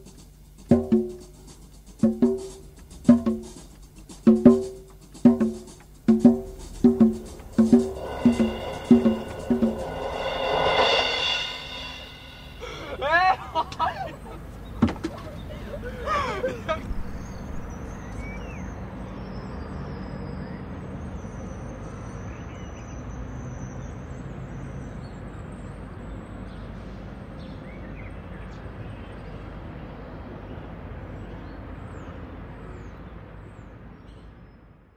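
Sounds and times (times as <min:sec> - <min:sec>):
outdoor background noise: 0:00.0 - 0:34.9.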